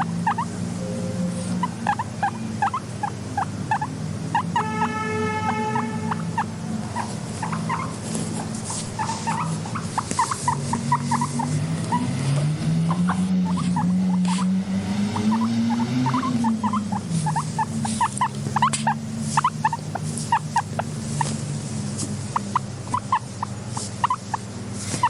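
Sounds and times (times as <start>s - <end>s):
guinea pigs squeaking: 0.0s - 0.7s, 1.3s - 21.4s, 22.0s - 25.0s
steady low hum: 0.0s - 24.9s.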